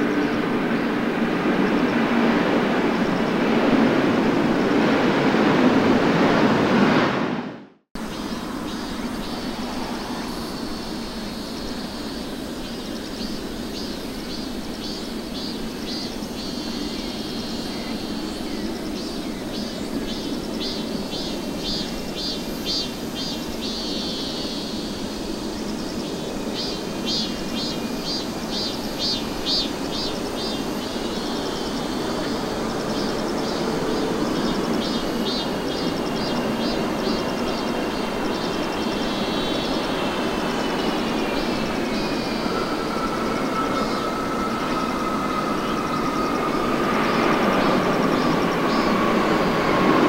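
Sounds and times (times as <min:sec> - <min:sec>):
jet engines running: 0:00.0 - 0:50.0.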